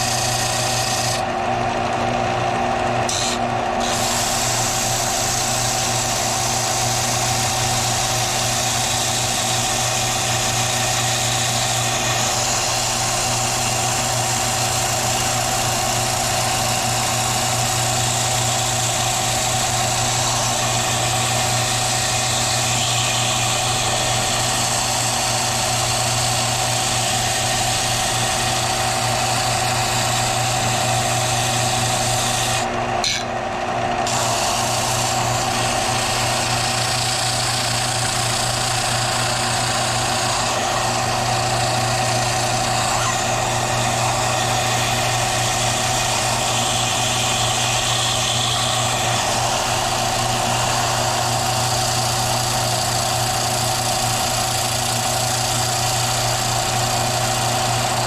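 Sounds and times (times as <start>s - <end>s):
belt sander grinding wood: 0.0s - 58.0s
sander motor humming: 0.0s - 58.0s.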